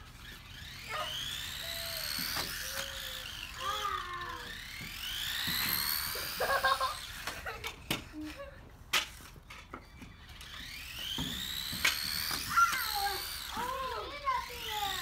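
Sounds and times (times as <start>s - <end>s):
toy truck electric motor whining: 0.0s - 8.5s, 9.1s - 15.0s.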